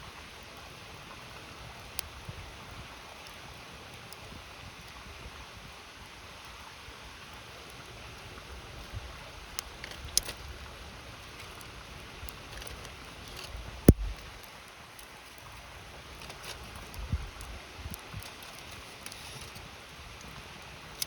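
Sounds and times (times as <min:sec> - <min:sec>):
campfire crackling and popping: 0:00.1 - 0:05.1, 0:07.2 - 0:21.0.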